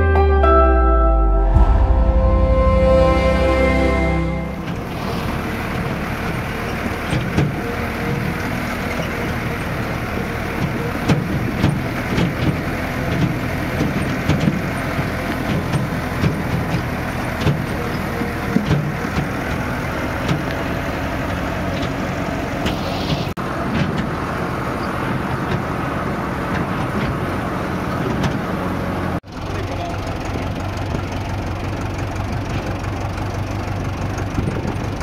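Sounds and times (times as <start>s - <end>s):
tractor diesel engine running: 2.4s - 35.0s.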